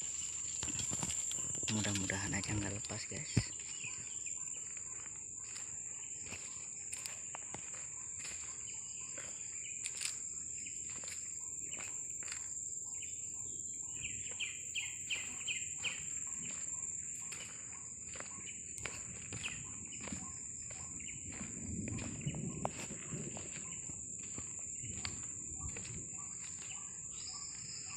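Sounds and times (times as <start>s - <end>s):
footsteps on dry leaves: 0.0s - 10.3s, 15.1s - 27.9s
high-pitched insect drone: 0.0s - 27.9s.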